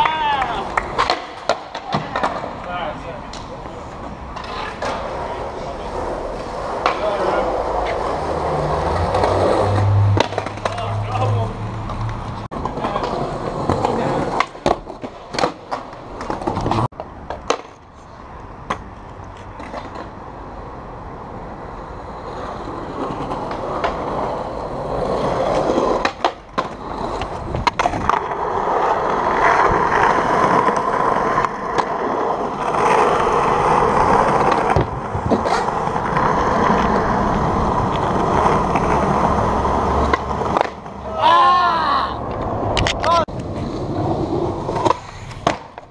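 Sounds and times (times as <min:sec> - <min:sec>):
skateboard popping and landing: 0:00.0 - 0:11.0, 0:11.7 - 0:17.9, 0:18.5 - 0:20.2, 0:22.2 - 0:41.2, 0:42.2 - 0:45.9
skateboard wheels rolling: 0:00.0 - 0:45.9.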